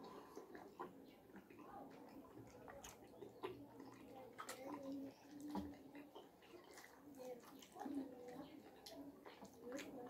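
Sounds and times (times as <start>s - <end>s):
person chewing with wet clicks: 0.0s - 10.0s.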